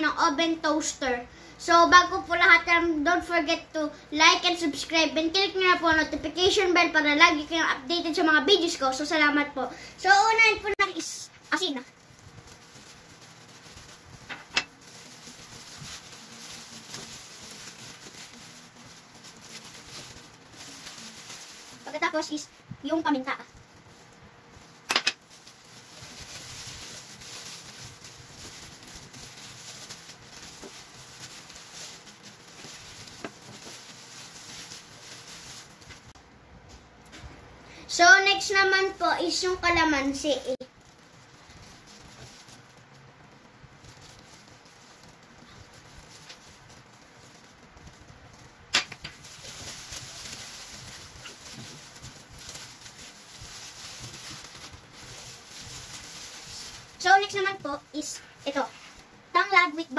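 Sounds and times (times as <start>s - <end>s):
plastic gloves rustling: 0.0s - 59.9s.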